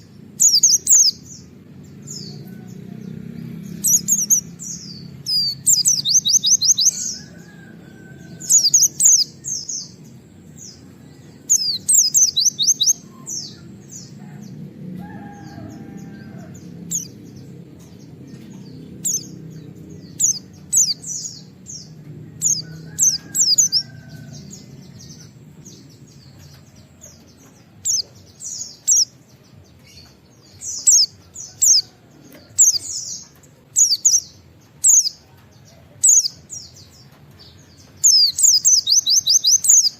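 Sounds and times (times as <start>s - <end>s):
bird singing fast trills: 0.0s - 14.5s, 15.8s - 27.2s, 27.8s - 31.9s, 32.6s - 35.2s, 36.0s - 39.9s.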